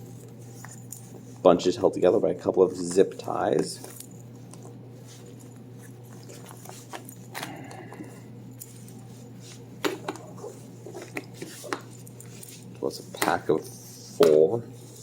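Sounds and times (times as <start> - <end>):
low electrical hum: 0.0 - 15.0
rustling of cable sleeves: 2.7 - 15.0.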